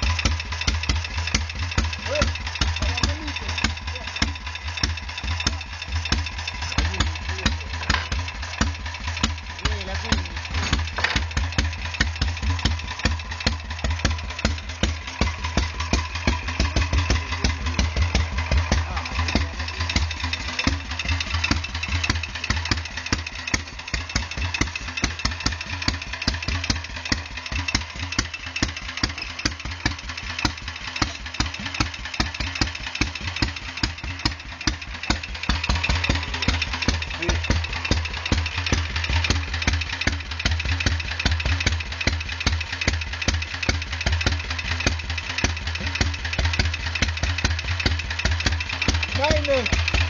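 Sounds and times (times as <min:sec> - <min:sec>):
single-cylinder engine idling: 0:00.0 - 0:50.0.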